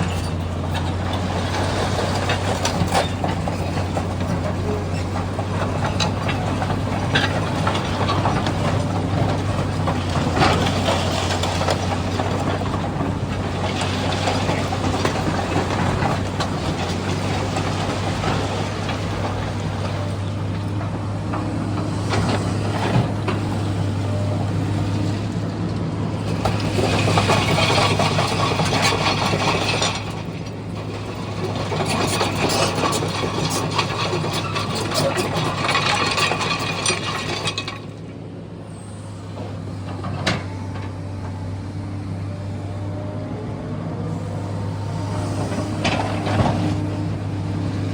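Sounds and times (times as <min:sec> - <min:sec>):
clanking and clatter: 0:00.0 - 0:25.3, 0:26.2 - 0:38.1, 0:45.0 - 0:47.9
excavator diesel engine running: 0:00.0 - 0:47.9.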